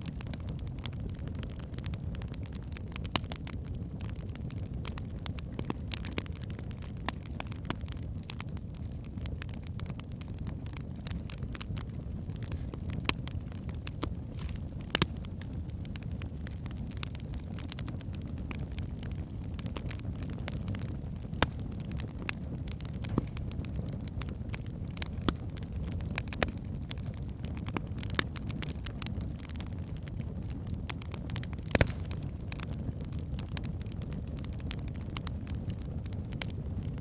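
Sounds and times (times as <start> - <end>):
logs crackling and popping: 0.0 - 37.0
rumble of flames: 0.0 - 37.0.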